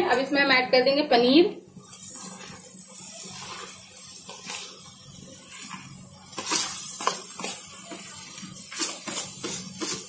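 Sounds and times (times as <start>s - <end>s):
sizzling hiss: 1.7s - 10.0s.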